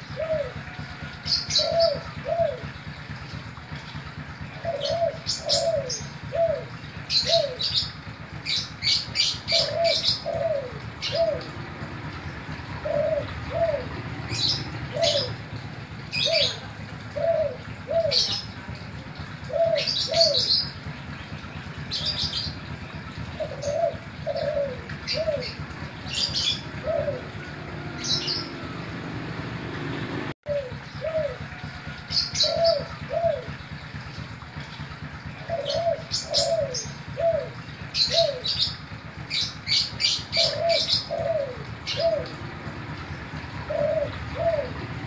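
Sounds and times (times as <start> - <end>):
dove cooing: 0.0 - 45.0.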